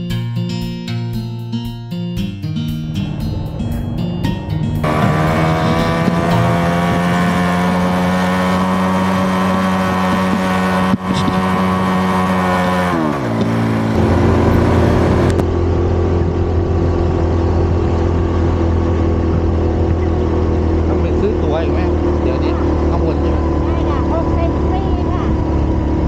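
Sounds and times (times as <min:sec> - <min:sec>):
small motorcycle engine running: 0:04.8 - 0:26.0.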